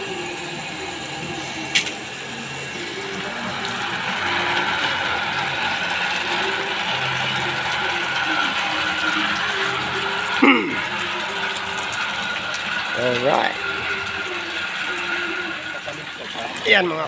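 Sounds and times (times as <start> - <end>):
water pump running: 0.0 - 17.0.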